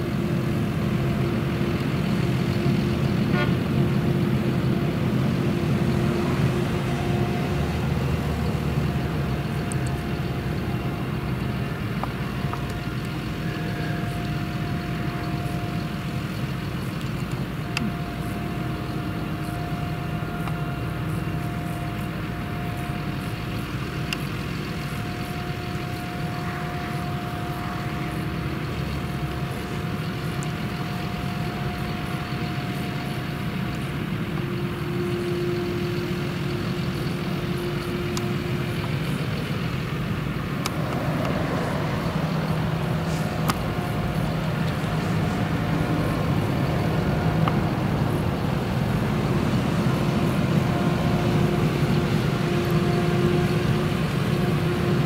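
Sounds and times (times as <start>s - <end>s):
harvester engine running under load: 0.0s - 55.0s
machine whine: 0.0s - 55.0s
tractor engine running: 0.0s - 55.0s.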